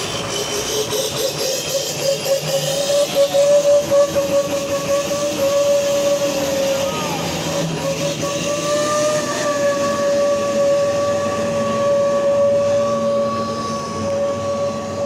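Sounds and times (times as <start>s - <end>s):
high-pitched whine: 0.0s - 15.0s
truck engine passing: 0.0s - 15.0s.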